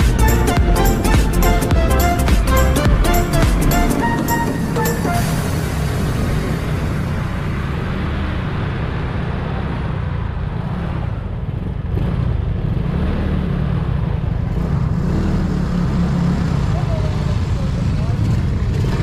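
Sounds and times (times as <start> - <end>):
vehicle engine low rumble: 0.0 - 19.0
wind and road noise: 0.0 - 19.0.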